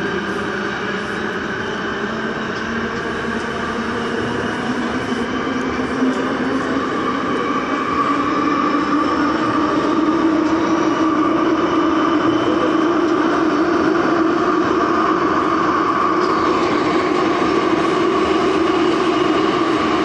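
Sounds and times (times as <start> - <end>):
train running through tunnel: 0.0 - 20.0.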